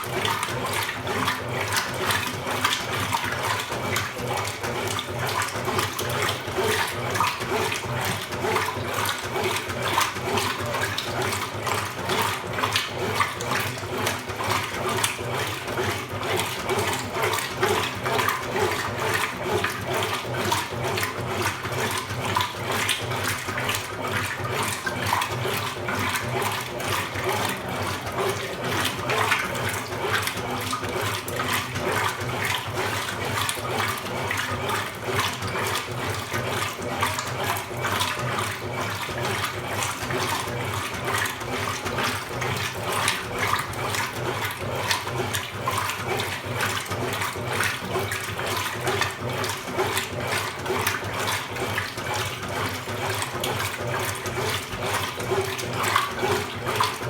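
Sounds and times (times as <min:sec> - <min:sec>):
water splashing in washing machine: 0:00.0 - 0:57.0.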